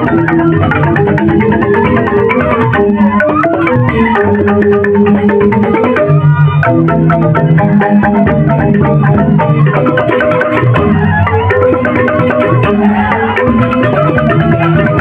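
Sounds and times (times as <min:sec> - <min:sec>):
bamboo xylophones interlocking: 0:00.0 - 0:15.0
drums: 0:00.0 - 0:15.0.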